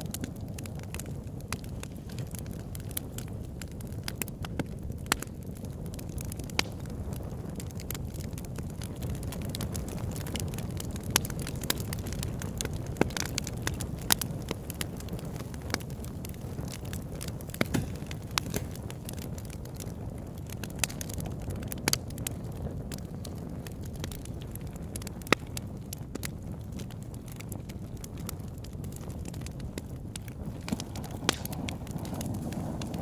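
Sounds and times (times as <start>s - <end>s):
campfire flames rushing: 0.0s - 33.0s
fire crackling and popping: 0.0s - 33.0s.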